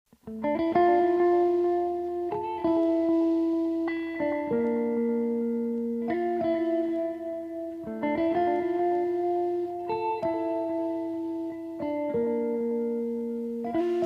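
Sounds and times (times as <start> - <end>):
guitar plucked notes and chords: 0.1 - 14.0.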